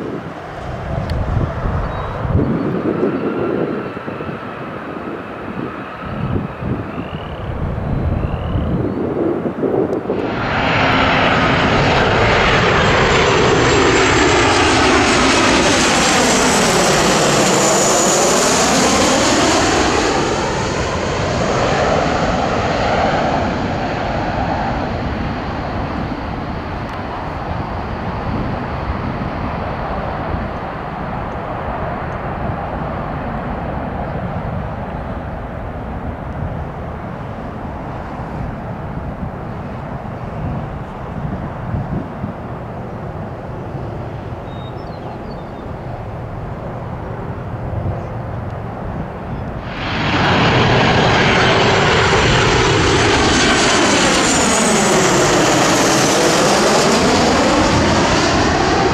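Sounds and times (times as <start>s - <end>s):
distant jet rumble: 0.0s - 58.9s
jet airliner passing overhead: 0.0s - 58.9s.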